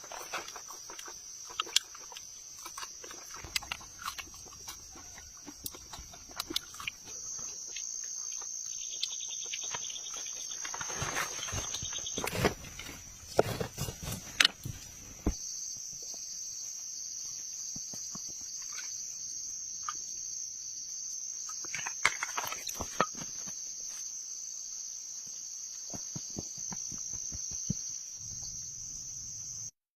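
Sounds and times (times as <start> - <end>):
insects chirping: 0.0 - 29.8.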